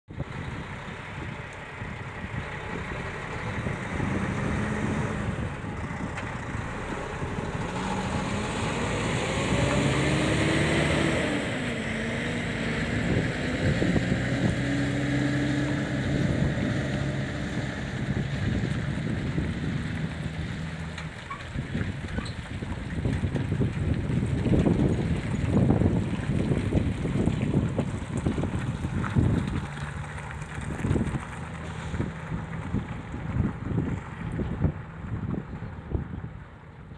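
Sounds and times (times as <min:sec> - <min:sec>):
diesel truck engine: 0:00.1 - 0:36.9
tyres and trailers rumbling: 0:00.1 - 0:36.9.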